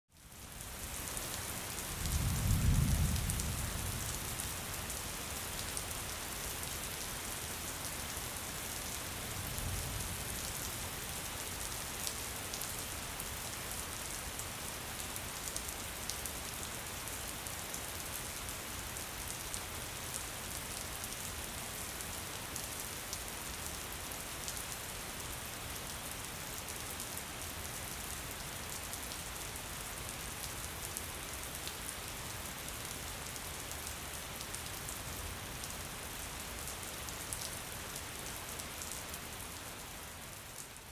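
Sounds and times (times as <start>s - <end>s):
rain falling in woodland: 0.1s - 40.9s.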